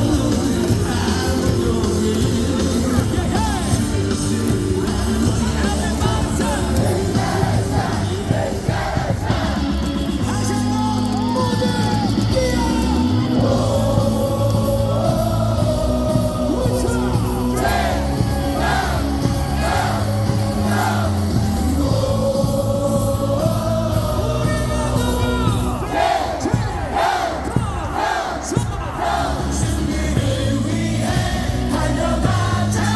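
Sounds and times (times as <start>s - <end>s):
loud amplified music with bass: 0.0s - 32.9s
stadium crowd singing in unison: 0.0s - 32.9s.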